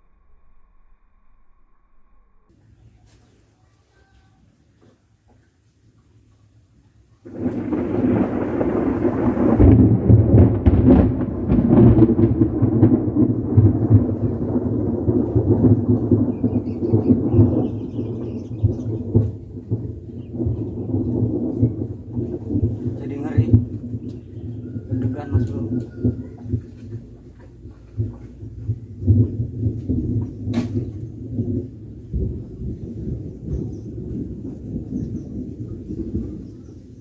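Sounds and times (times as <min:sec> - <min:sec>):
loud thunderclap: 0:07.2 - 0:37.0
thunder rumbling with crackles: 0:07.2 - 0:37.0.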